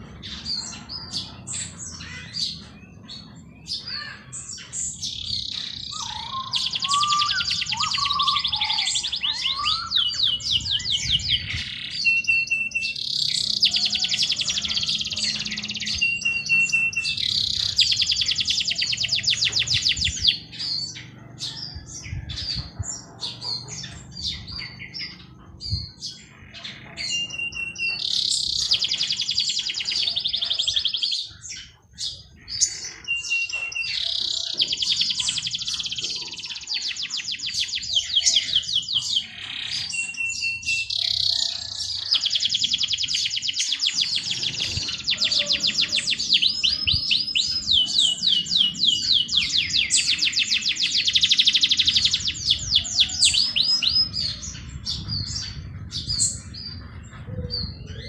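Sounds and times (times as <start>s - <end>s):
bird chirps: 0.0s - 58.0s
songbird trilling: 0.0s - 58.0s.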